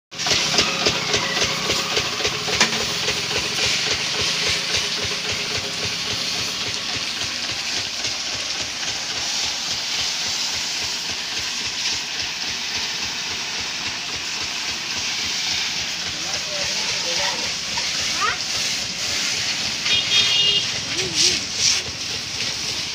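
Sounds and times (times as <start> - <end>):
pressure washer jet hissing: 0.1 - 22.9.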